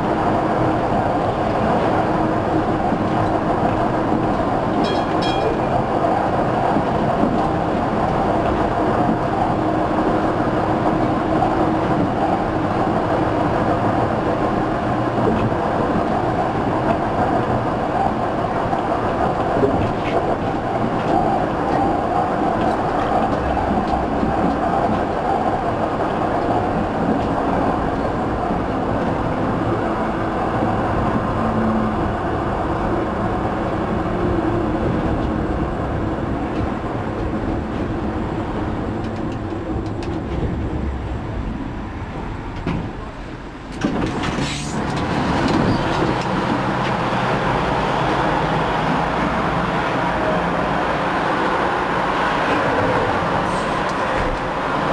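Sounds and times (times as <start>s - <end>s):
tram wheels and motors rumbling: 0.0s - 54.9s.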